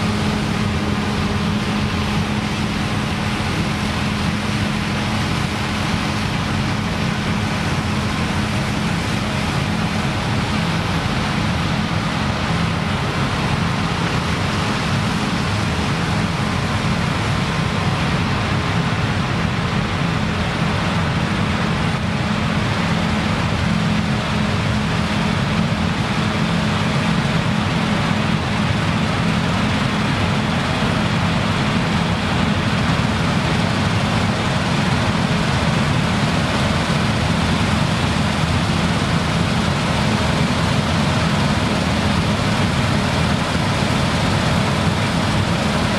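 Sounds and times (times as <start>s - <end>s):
combine harvester running: 0.0s - 45.9s.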